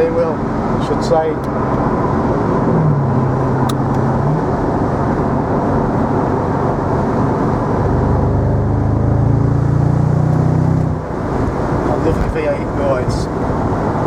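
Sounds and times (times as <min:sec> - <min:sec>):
car engine under load: 0:00.0 - 0:14.0
road noise: 0:00.0 - 0:14.0.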